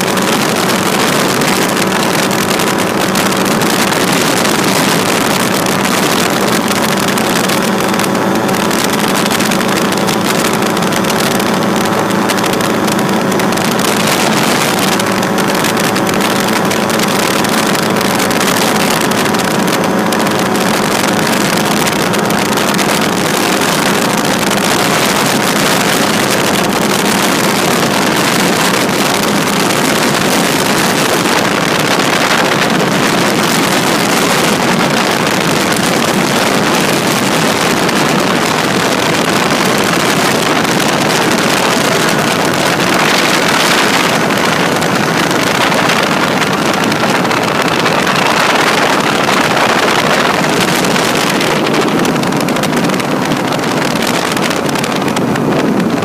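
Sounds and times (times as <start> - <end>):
ultralight engine drone: 0.0 - 56.0
wind on microphone: 0.0 - 56.0.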